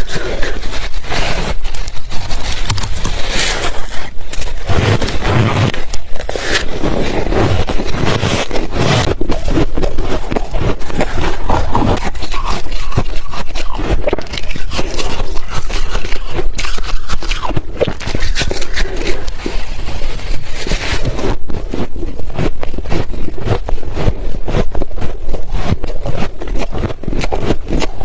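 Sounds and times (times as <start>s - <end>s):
person crunching ice: 0.0s - 28.0s.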